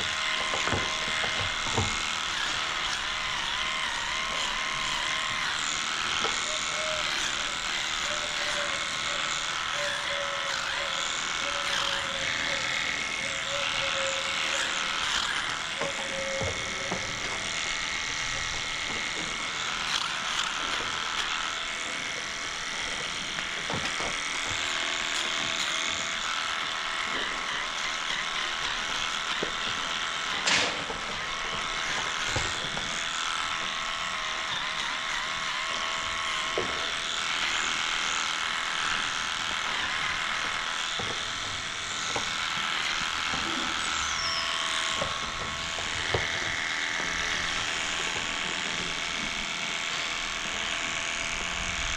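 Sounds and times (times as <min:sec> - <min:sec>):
electric clippers running: 0:00.0 - 0:51.9.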